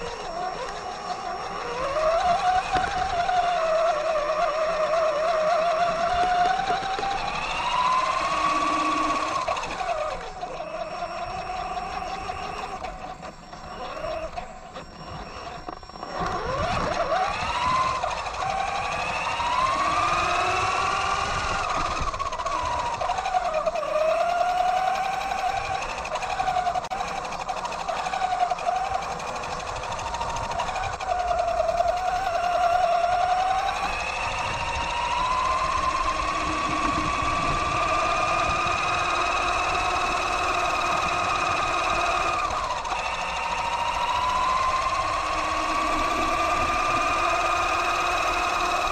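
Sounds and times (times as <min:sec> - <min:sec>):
electric toy truck motor whining: 0:00.0 - 0:48.9.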